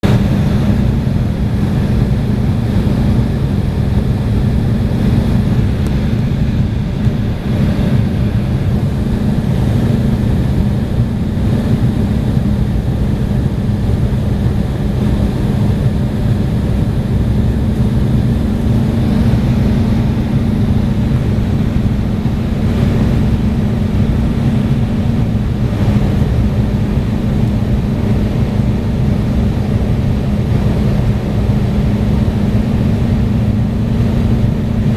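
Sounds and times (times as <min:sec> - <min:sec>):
jet engines droning: 0:00.0 - 0:34.9
low hum: 0:00.0 - 0:34.9
rushing air: 0:00.0 - 0:34.9.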